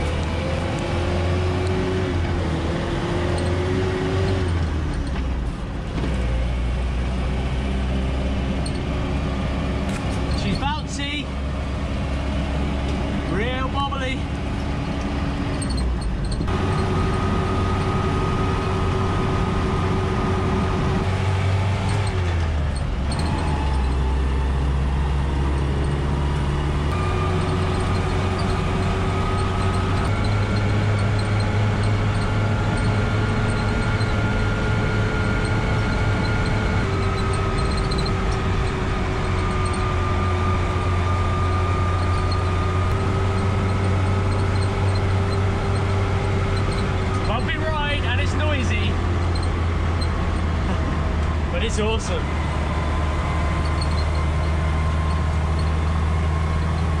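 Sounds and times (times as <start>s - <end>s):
engine and drivetrain drone: 0.0s - 57.0s.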